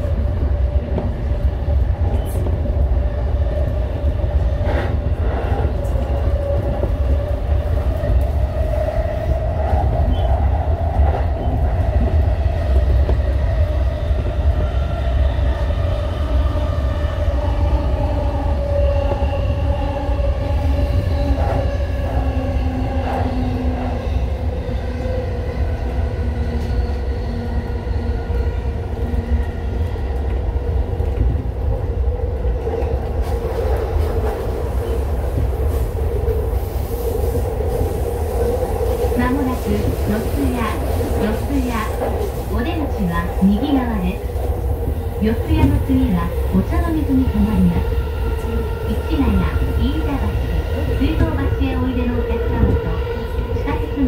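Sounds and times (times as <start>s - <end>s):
train cabin rumble: 0.0s - 54.0s.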